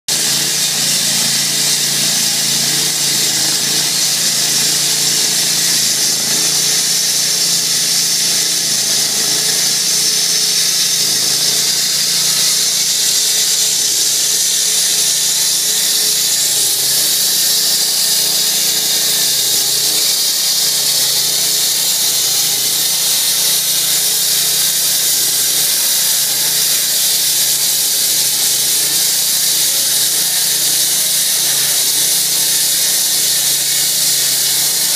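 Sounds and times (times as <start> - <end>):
concrete saw engine droning: 0.1 - 34.9
saw blade hissing in concrete: 0.1 - 34.9.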